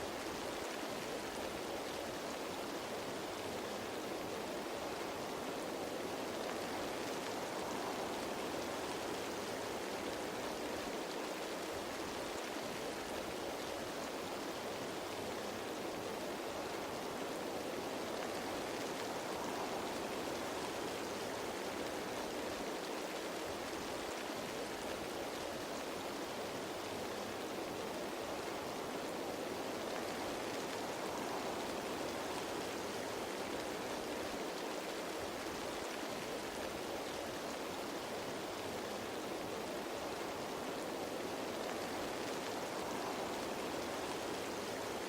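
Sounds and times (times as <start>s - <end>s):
rain falling on leaves: 0.0s - 45.0s.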